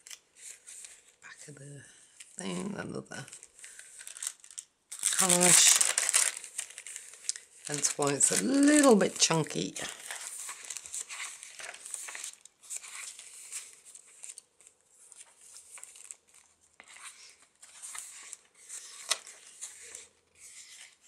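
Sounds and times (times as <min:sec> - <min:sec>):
paper pages rustling: 0:00.0 - 0:01.2, 0:03.2 - 0:21.0.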